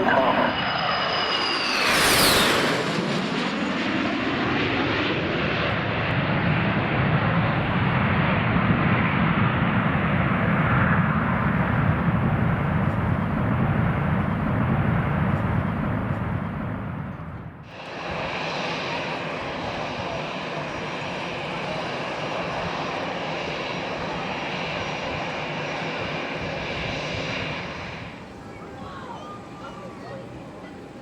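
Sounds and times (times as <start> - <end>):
turboprop plane passing: 0.0 - 31.0.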